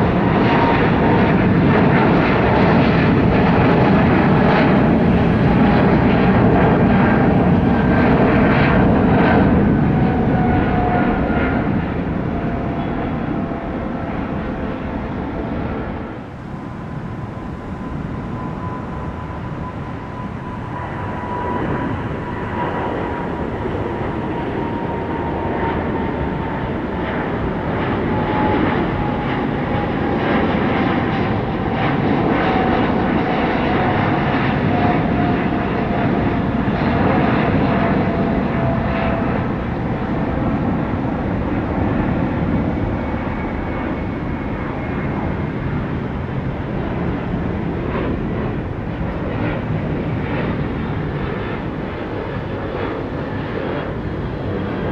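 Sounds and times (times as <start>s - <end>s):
jet engines rumbling: 0.0s - 54.9s.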